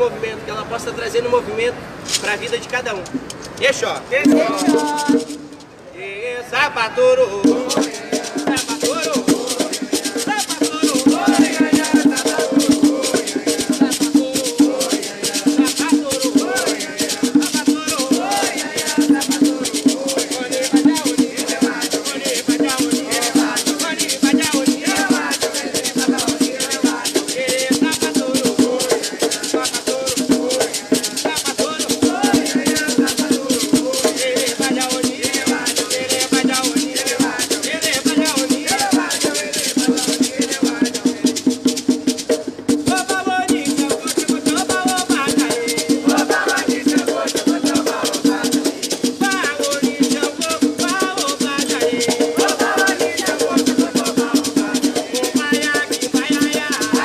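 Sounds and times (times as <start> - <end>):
hand drums: 4.2 - 5.7, 7.4 - 57.0
person singing a chant: 7.4 - 41.4, 42.9 - 57.0.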